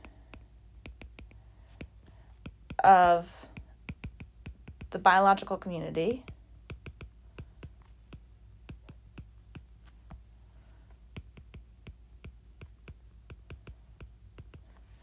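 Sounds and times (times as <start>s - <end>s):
stylus tapping on glass screen: 0.0s - 5.0s, 6.2s - 10.2s, 11.1s - 14.8s
faint low hum: 0.0s - 15.0s.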